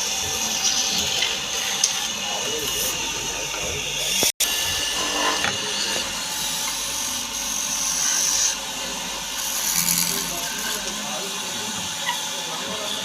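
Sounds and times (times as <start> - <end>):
power tool hissing on wood: 0.0 - 13.0.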